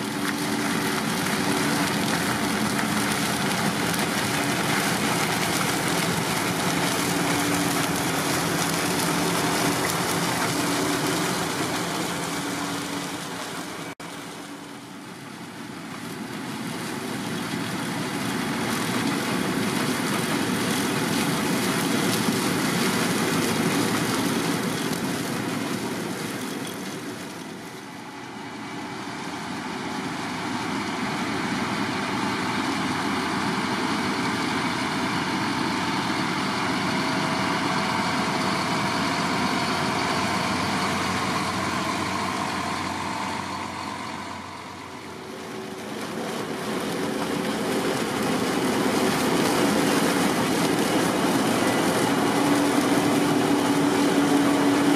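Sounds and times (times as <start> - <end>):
diesel tractor engine: 0.0 - 54.9.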